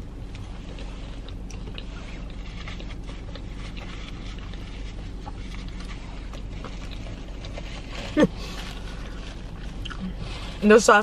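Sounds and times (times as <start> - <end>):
crunchy chewing: 0.0 - 10.6
steady low hum: 0.0 - 11.0.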